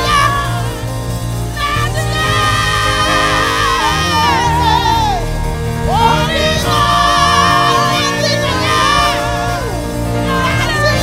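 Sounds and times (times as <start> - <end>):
backing vocalists singing: 0.0 - 11.0
band accompaniment: 0.0 - 11.0
lead singer: 0.0 - 11.0.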